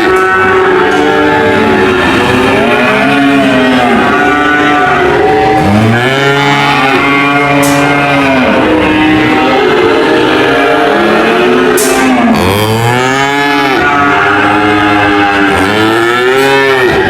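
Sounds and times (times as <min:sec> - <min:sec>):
cows mooing: 0:00.0 - 0:17.0.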